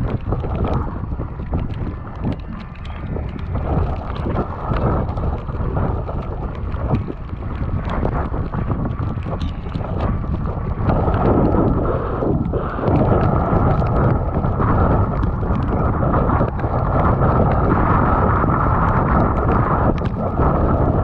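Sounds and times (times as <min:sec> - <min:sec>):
faint ticks: 0:00.0 - 0:17.7
wind buffeting microphone: 0:00.0 - 0:21.0.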